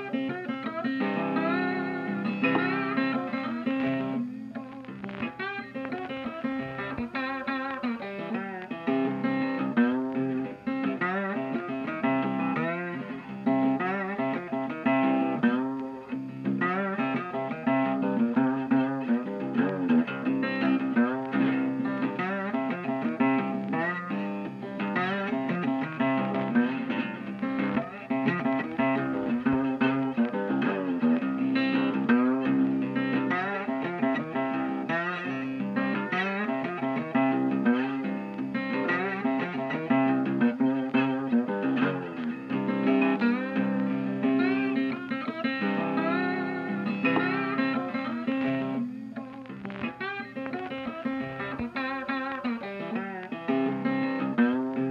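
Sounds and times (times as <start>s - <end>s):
blues guitar music: 0.0s - 54.9s.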